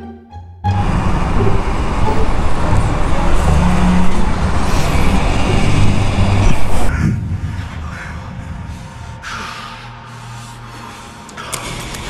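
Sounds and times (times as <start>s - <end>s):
road traffic rumble: 0.7s - 12.0s.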